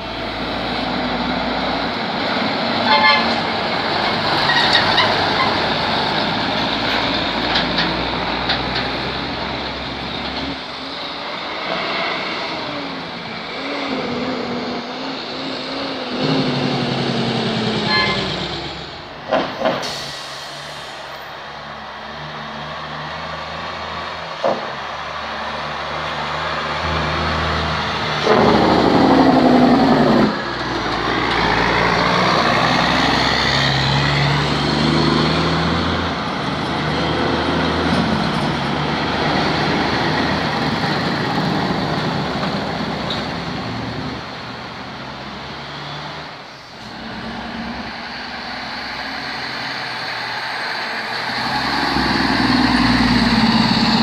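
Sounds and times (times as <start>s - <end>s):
diesel trucks passing: 0.0s - 54.0s.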